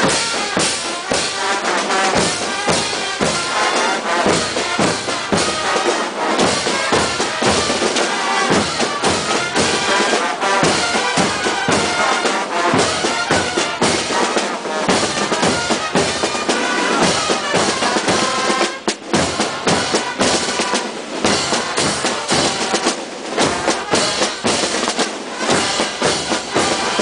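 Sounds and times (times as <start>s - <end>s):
brass instruments playing: 0.0s - 27.0s
marching drums beating: 0.0s - 27.0s.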